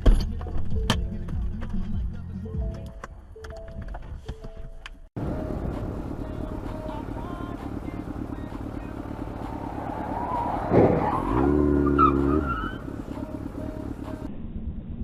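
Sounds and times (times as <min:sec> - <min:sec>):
car and road noise: 0:00.0 - 0:15.0.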